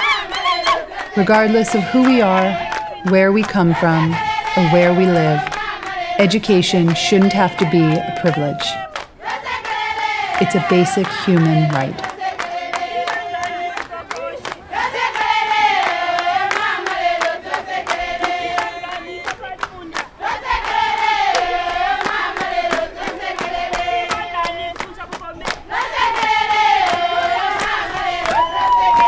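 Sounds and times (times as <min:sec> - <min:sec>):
group of voices singing: 0:00.0 - 0:29.0
rhythmic hand-clapping: 0:00.0 - 0:29.0.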